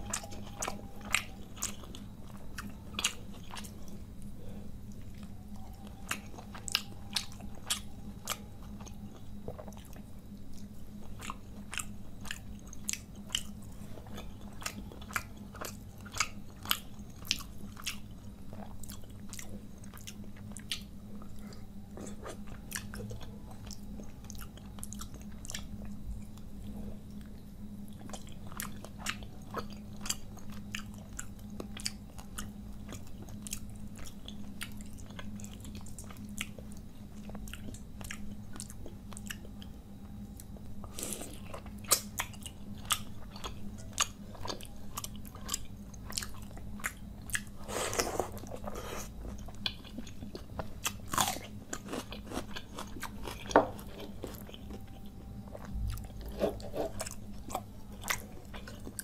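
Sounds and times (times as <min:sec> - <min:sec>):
person chewing food: 0:00.0 - 0:39.7, 0:40.4 - 0:59.0
steady low hum: 0:00.0 - 0:59.0.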